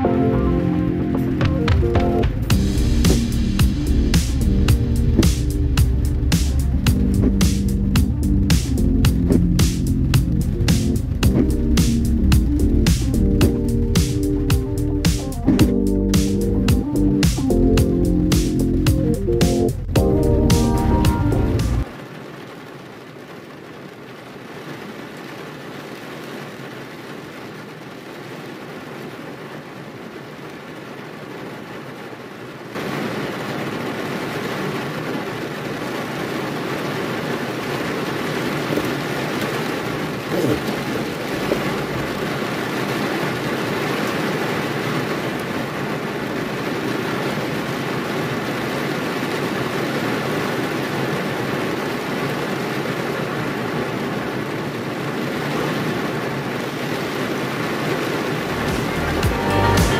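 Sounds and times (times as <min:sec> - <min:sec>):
heavy rain on car roof: 0:00.0 - 0:59.9.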